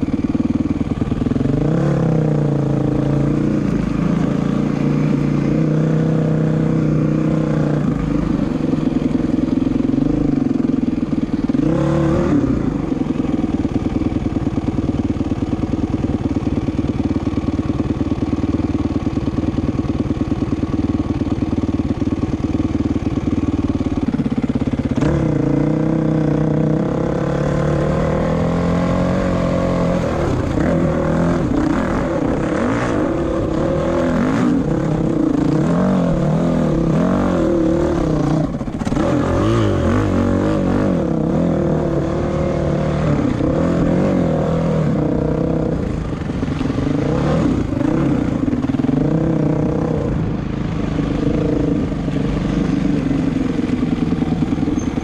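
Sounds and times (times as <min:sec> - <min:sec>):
dirt bike engine revving: 0:00.0 - 0:17.5, 0:22.6 - 0:55.0.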